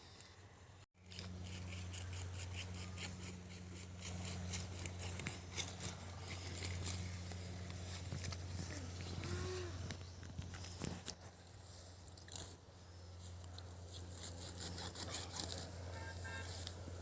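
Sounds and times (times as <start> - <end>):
steady low hum: 0.0 - 17.0
quick scraping strokes: 1.0 - 9.5, 10.5 - 17.0.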